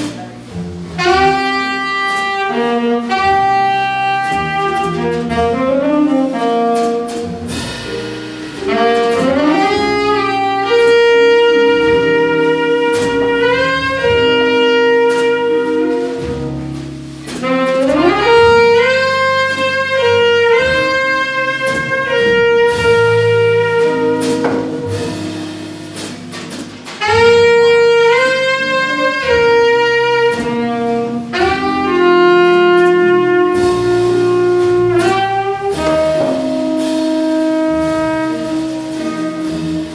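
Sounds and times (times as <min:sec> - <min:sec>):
tenor saxophone: 0:00.0 - 0:07.8, 0:08.6 - 0:39.9
drums with cymbals: 0:00.0 - 0:39.9
jazz guitar: 0:00.0 - 0:39.9
upright bass: 0:00.0 - 0:39.9.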